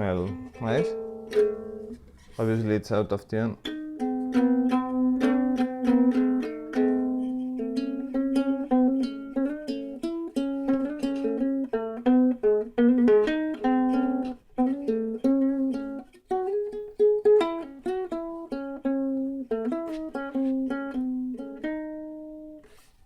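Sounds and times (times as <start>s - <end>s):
ukulele picking: 0.0s - 2.8s, 3.6s - 23.0s.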